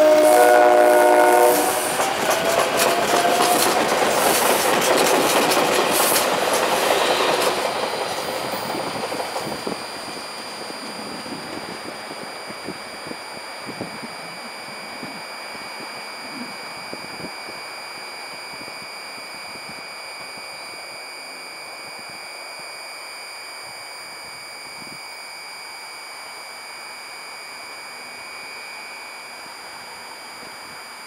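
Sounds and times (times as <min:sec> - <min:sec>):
electric train hissing: 0:00.0 - 0:31.0
faint high whine: 0:00.0 - 0:31.0.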